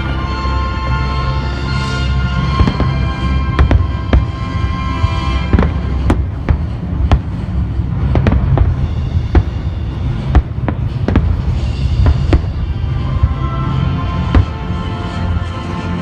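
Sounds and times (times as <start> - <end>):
faint music: 0.0 - 16.0
low rumble of bursts: 0.0 - 16.0
fireworks bangs: 2.2 - 15.6.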